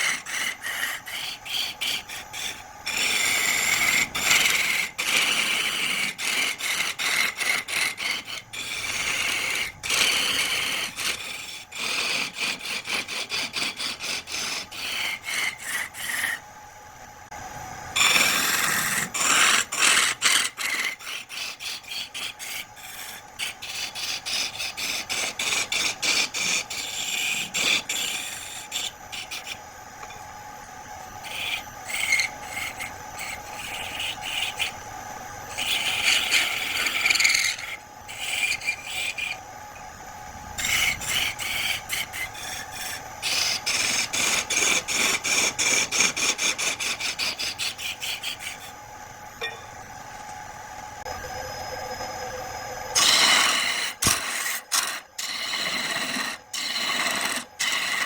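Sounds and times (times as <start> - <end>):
wood being rasped by hand: 0.0 - 16.4, 18.0 - 29.6, 31.2 - 34.8, 35.5 - 39.4, 40.6 - 48.7, 53.0 - 58.0
faint steady hum: 0.0 - 58.0.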